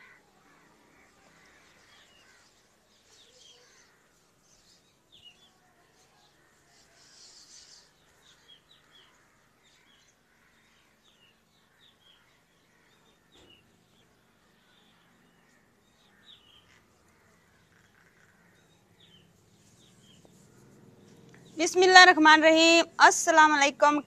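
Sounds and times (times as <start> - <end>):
small birds chirping: 0.0 - 23.6.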